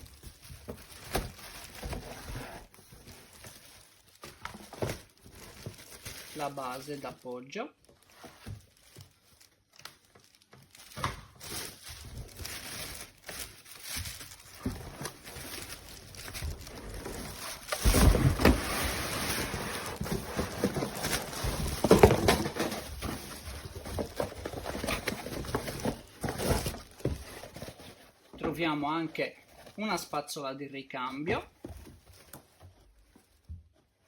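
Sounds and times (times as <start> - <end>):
plastic packaging rustling: 0.0 - 30.1, 31.3 - 34.0.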